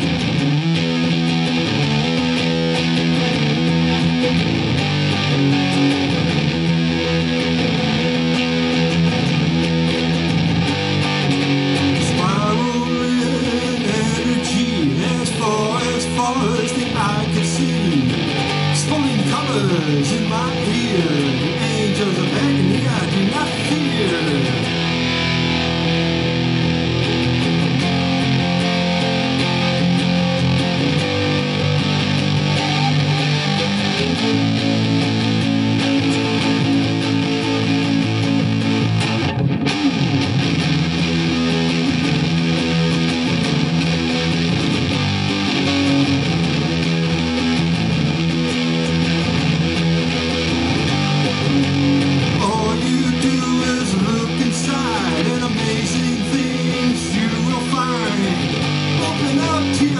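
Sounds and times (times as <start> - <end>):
electric guitar rock chords: 0.0 - 59.9.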